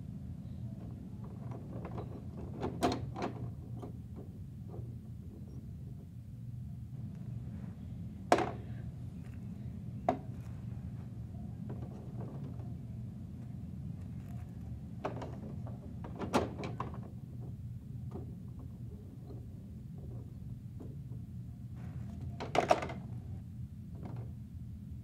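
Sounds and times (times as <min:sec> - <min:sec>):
low background hum: 0:00.0 - 0:25.0.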